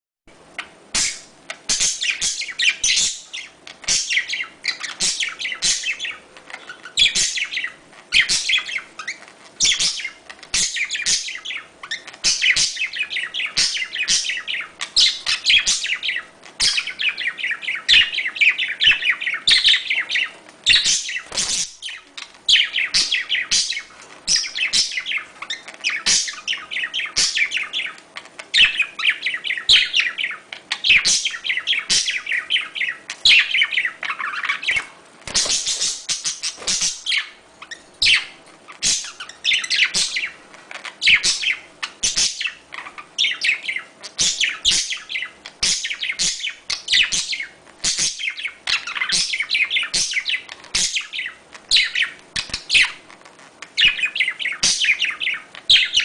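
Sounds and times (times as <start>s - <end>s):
budgerigars chattering: 0.6s - 53.0s, 53.8s - 56.0s.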